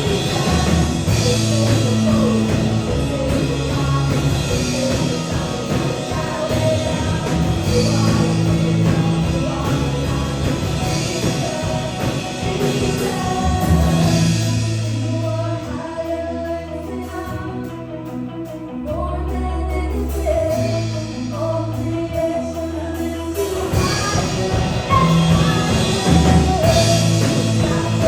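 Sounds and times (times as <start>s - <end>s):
rock band music with singing: 0.0s - 28.0s.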